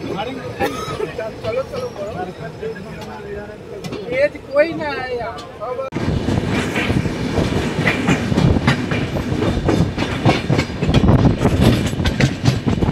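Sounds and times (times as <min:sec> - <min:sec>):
train wheels clattering: 0:00.0 - 0:04.3, 0:05.3 - 0:12.9
train rumble: 0:00.0 - 0:12.9.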